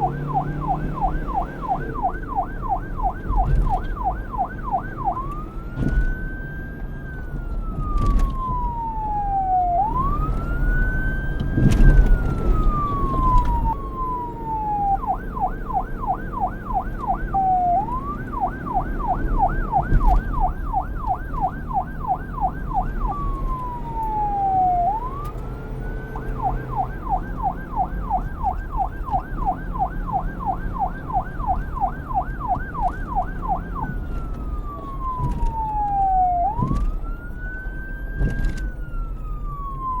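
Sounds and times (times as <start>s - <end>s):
police siren wailing and yelping: 0.0s - 40.0s.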